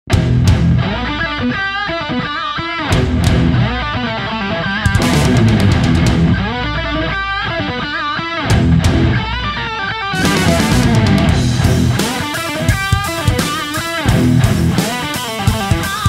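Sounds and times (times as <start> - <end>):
guitar-led rock music: 0.1 - 16.0.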